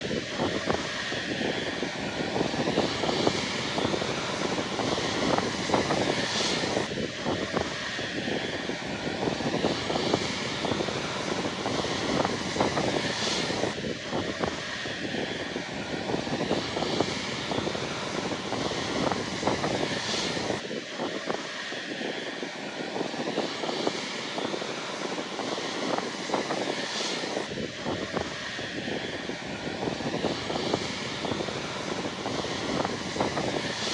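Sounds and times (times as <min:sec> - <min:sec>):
jet engines rushing and whining: 0:00.0 - 0:33.9.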